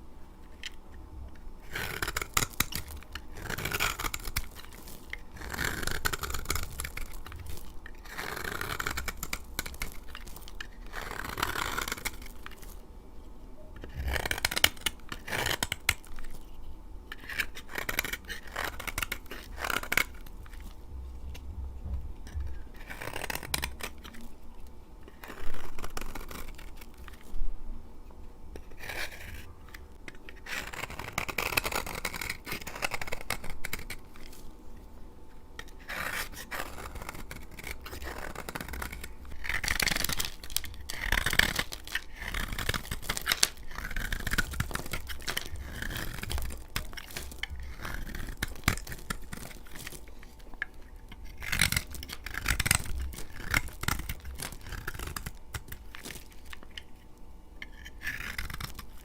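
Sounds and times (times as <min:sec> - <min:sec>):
blade scraping soap: 0:00.5 - 0:12.9, 0:13.8 - 0:21.4, 0:22.2 - 0:27.4, 0:28.5 - 0:34.5, 0:35.3 - 0:59.0.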